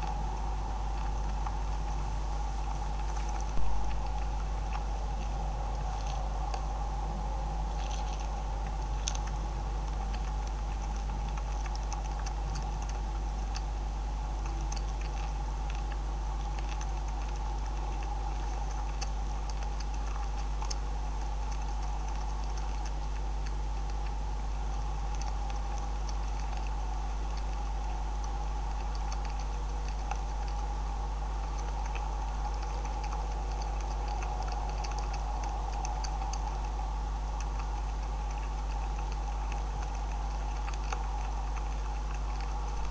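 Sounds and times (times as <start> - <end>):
beavers chewing: 0.0 - 42.9
low hum: 0.0 - 42.9.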